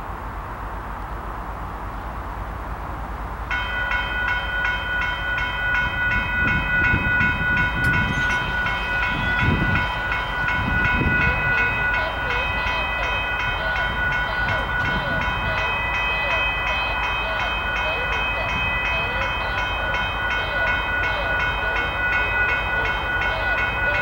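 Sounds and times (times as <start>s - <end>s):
railroad crossing bell ringing: 3.4s - 24.0s.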